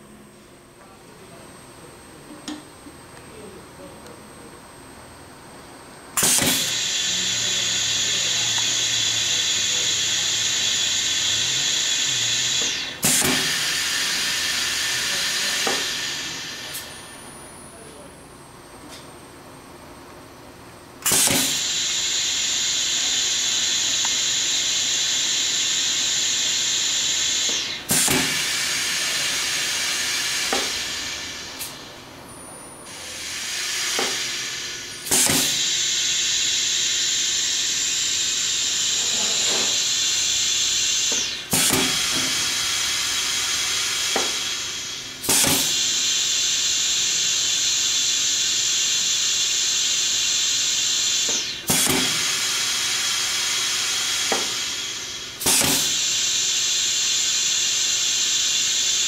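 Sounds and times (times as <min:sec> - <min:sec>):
air valve clicking: 0:06.2 - 0:16.9, 0:21.0 - 0:31.8, 0:32.9 - 0:59.0
compressed air hissing: 0:06.2 - 0:17.1, 0:21.0 - 0:31.9, 0:32.9 - 0:59.0.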